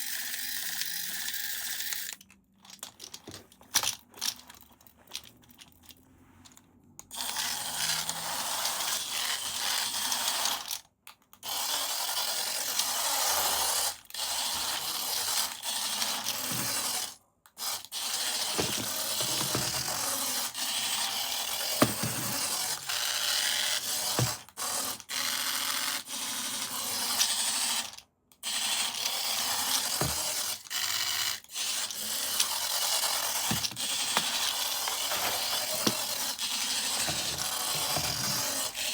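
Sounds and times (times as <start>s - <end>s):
toy motor whirring and clicking: 0.0s - 6.0s, 7.0s - 38.9s.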